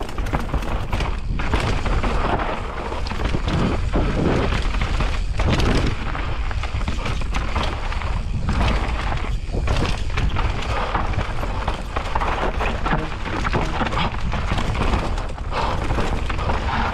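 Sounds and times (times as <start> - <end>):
bike knocking and rattling: 0.0 - 16.9
tyres rolling over dirt and rocks: 0.0 - 16.9.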